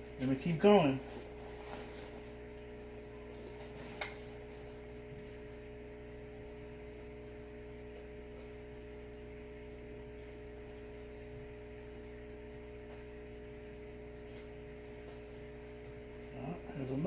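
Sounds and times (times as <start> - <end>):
steady low tonal hum: 0.0 - 17.0.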